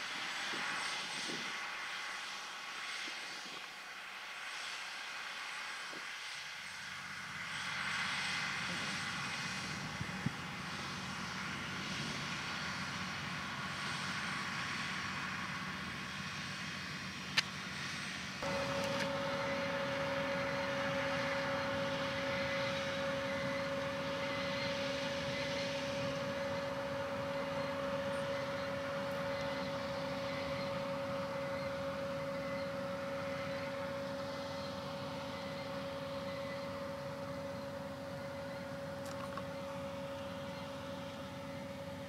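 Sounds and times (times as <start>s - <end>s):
steady high whine: 0.0s - 42.0s
tractor engine drone: 0.0s - 42.0s.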